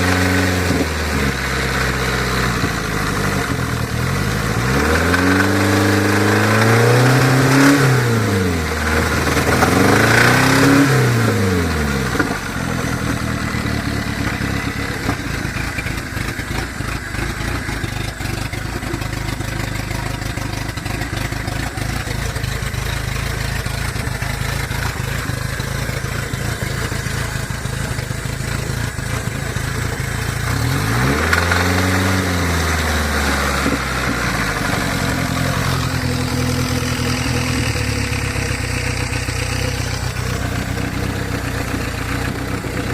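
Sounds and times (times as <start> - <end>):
car engine revving and idling: 0.0 - 42.9.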